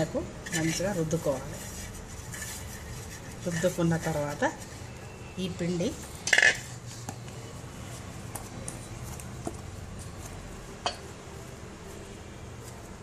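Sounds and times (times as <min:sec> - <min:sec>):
hands squeezing dough: 0:00.4 - 0:13.0.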